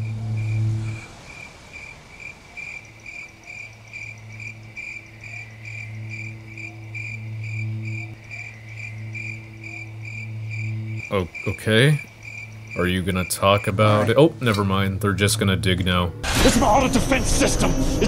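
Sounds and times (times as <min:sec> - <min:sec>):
low steady hum: 0:00.0 - 0:03.1, 0:03.7 - 0:18.0
crickets chirping: 0:00.0 - 0:18.0.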